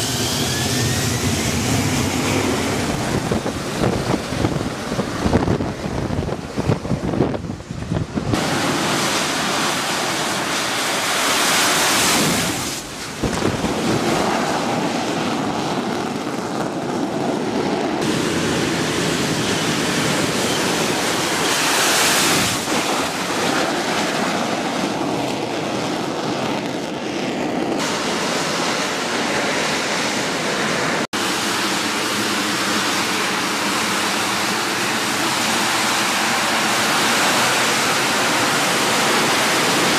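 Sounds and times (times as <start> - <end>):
jet engine roaring: 0.0 - 39.9.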